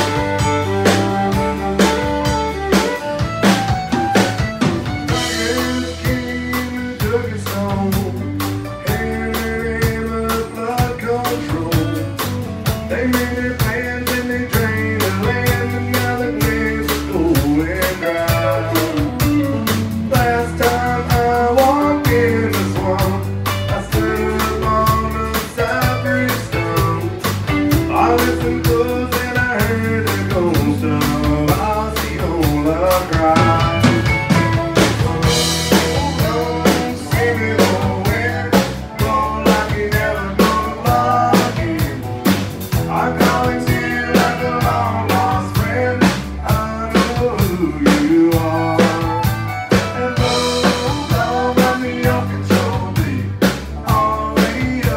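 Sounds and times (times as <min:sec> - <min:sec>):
country band playing: 0:00.0 - 0:54.9
man singing: 0:05.1 - 0:54.9.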